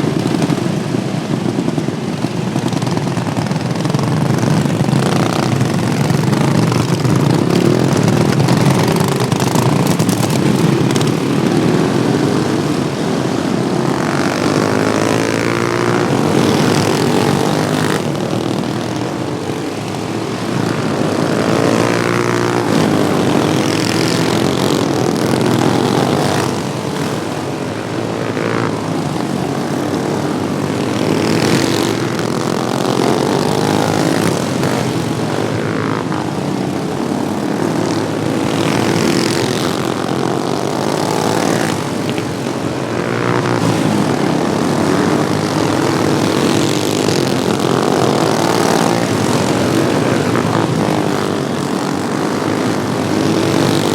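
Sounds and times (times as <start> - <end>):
small racing engines buzzing: 0.0 - 53.9.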